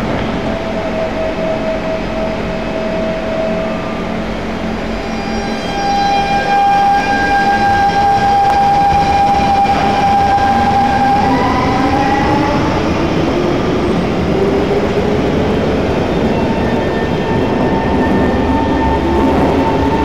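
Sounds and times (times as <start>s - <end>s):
train traction motor whining: 0.0s - 20.0s.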